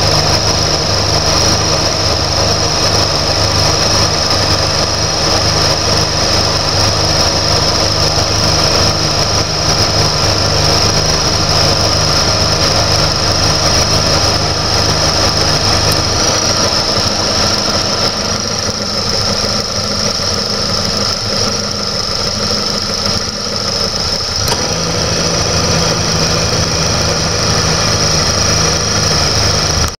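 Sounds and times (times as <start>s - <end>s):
car engine idling with whine: 0.0s - 30.0s.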